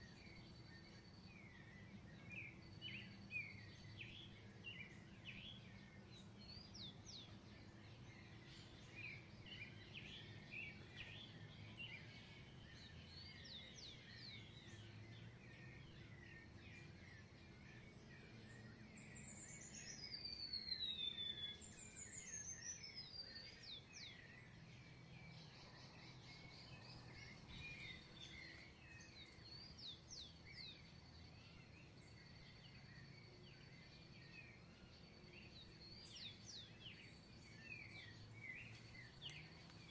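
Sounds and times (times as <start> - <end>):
birds chirping in chorus: 0.0 - 39.9.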